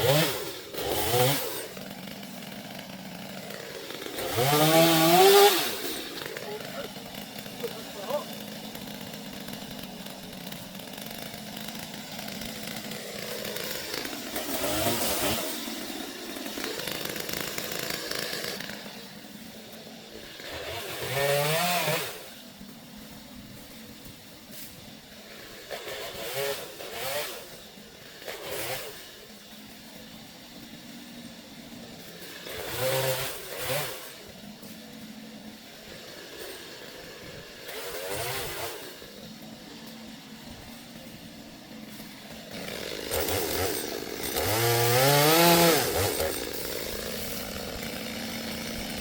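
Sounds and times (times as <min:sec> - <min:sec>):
chainsaw revving: 0:00.0 - 0:49.0.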